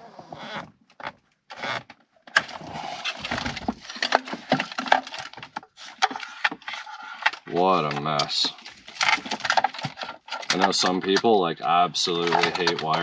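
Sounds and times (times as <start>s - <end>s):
rubbing and rustling of wiring: 0.0s - 13.0s.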